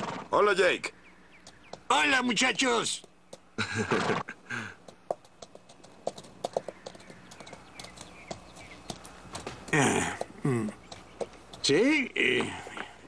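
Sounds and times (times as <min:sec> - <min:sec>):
horse hooves clopping: 0:01.4 - 0:04.1, 0:04.8 - 0:13.0.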